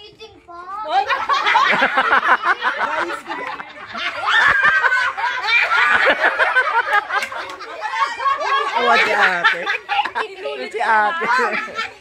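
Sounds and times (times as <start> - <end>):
group of people laughing: 0.9 - 12.0.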